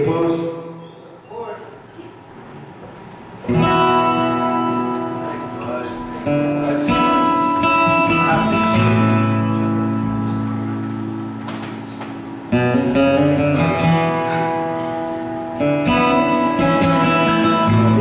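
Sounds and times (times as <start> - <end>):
acoustic guitar chords strummed: 3.2 - 18.0.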